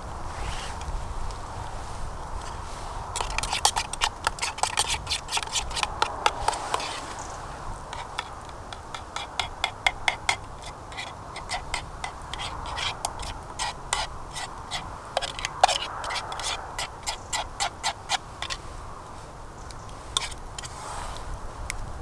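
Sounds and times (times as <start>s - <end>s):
campfire crackling: 0.0s - 21.4s.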